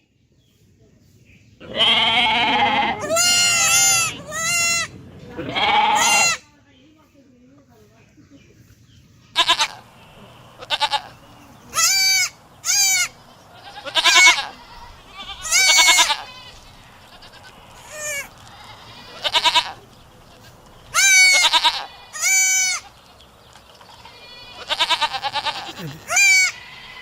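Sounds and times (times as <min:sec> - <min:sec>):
goat bleating: 0:01.6 - 0:06.4, 0:09.3 - 0:27.0.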